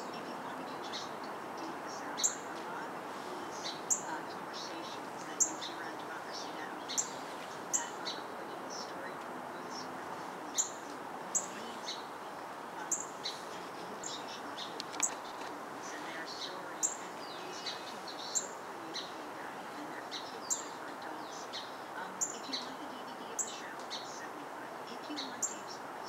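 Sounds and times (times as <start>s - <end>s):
background noise: 0.0s - 26.0s.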